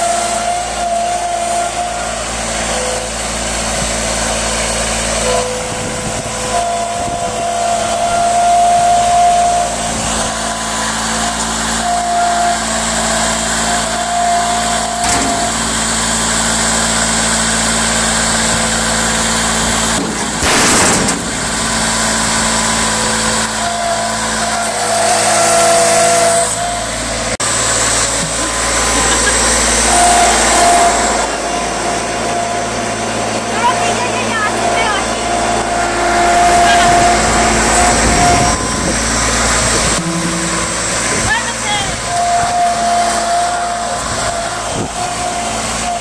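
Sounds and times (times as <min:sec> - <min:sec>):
diesel engine revving: 0:00.0 - 0:46.0
hydraulic whine: 0:00.0 - 0:46.0.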